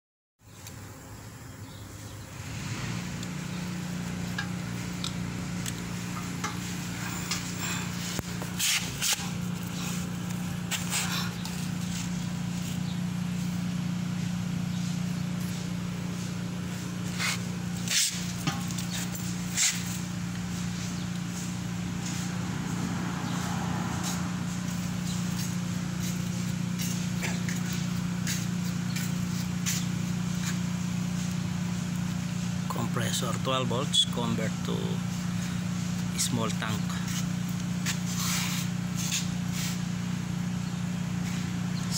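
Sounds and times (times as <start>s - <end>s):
air compressor humming: 0.4s - 41.9s.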